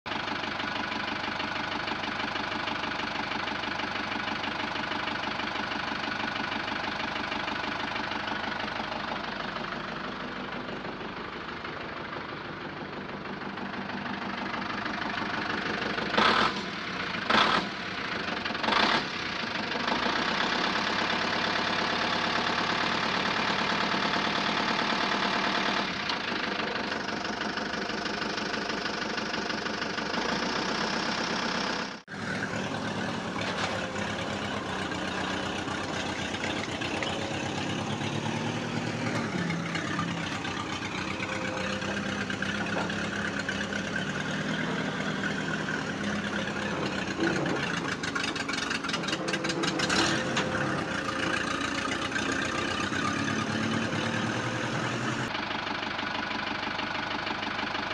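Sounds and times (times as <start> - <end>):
truck diesel engine running: 0.0 - 57.9.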